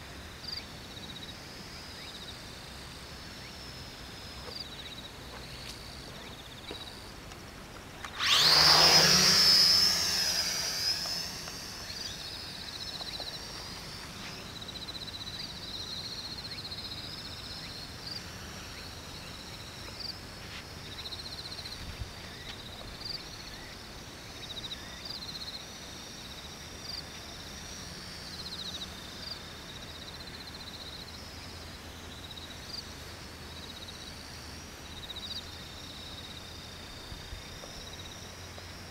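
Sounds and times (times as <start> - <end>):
electric motors whining: 0.3 - 32.2.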